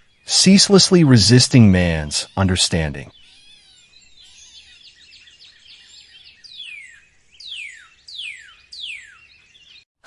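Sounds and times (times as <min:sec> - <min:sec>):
descending whistled bird calls: 0:00.0 - 0:09.9
high bird chirps: 0:01.6 - 0:09.9.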